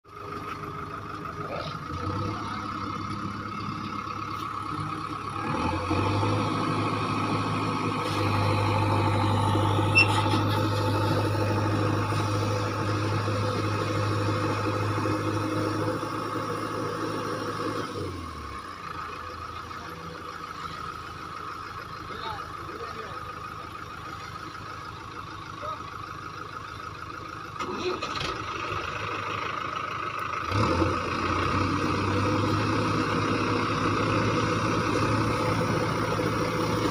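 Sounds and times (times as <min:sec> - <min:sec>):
backhoe diesel engine straining: 0:00.1 - 0:36.9.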